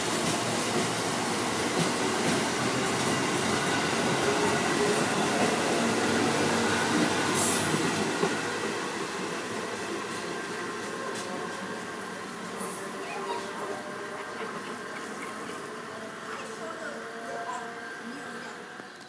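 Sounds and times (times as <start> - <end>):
train coaches rolling past: 0.0 - 19.0.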